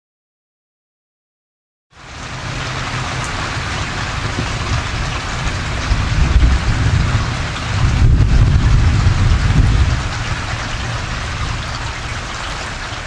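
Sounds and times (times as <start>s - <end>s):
heavy rain on pavement: 1.9s - 13.0s
low rumble: 2.3s - 13.0s.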